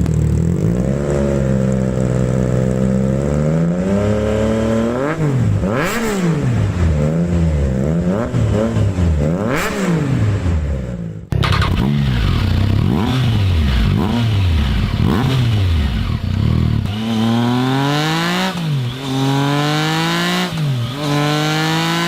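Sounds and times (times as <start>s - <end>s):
motorcycle accelerating through gears: 0.0s - 22.0s
motorcycle engine revving: 0.0s - 22.0s.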